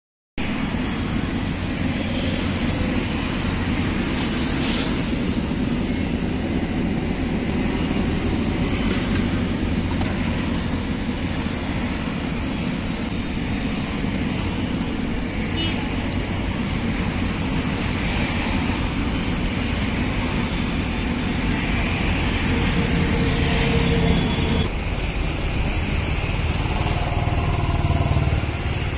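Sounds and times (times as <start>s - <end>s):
low traffic rumble: 0.4s - 28.9s.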